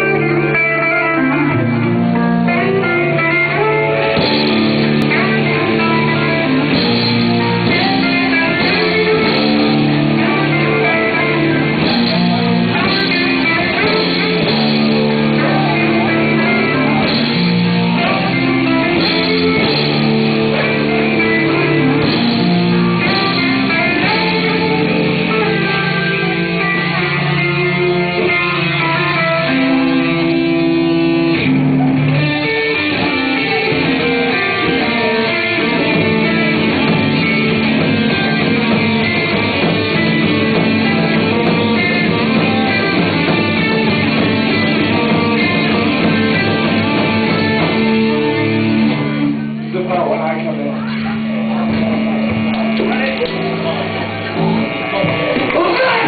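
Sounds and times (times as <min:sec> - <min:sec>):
live guitar music: 0:00.0 - 0:56.0.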